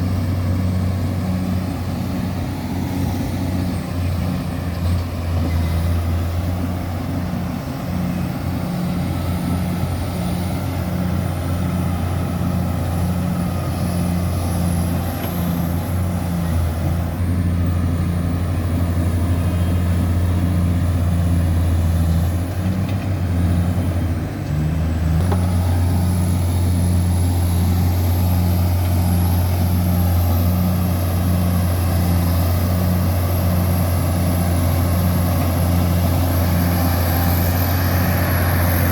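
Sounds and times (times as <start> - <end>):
bulldozer diesel engine rumbling: 0.0 - 38.9.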